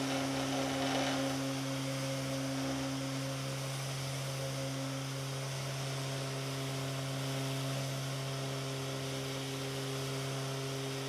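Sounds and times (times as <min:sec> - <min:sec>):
orbit sander humming and hissing: 0:00.0 - 0:11.0.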